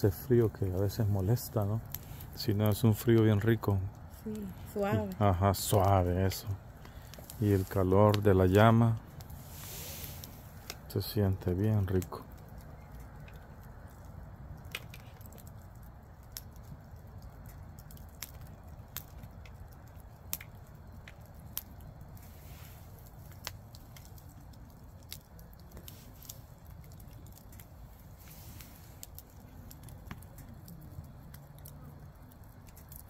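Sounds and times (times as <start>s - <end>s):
bonfire crackling: 0.0s - 33.0s
flame rushing: 0.1s - 32.0s.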